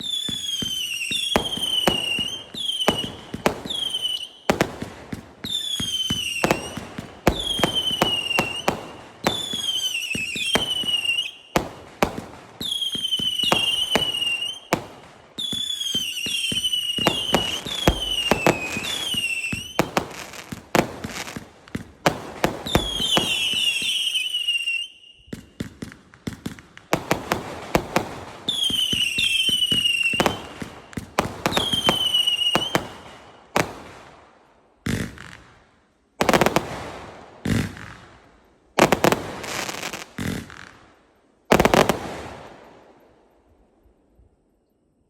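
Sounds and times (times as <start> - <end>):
firework pops and crackling: 0.0 - 24.3, 25.2 - 34.1, 38.8 - 42.9
whistling firework shots: 0.0 - 35.6, 36.2 - 43.1.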